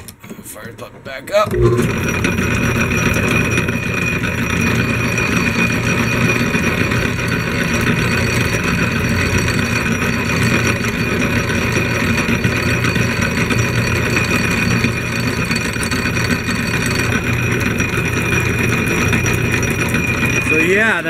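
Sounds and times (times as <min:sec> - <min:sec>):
electric motor hum: 0:01.5 - 0:21.0.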